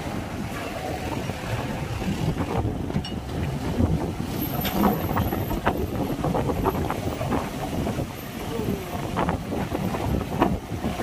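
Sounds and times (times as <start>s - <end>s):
low engine rumble: 0.0s - 11.0s
wind buffeting microphone: 0.0s - 11.0s.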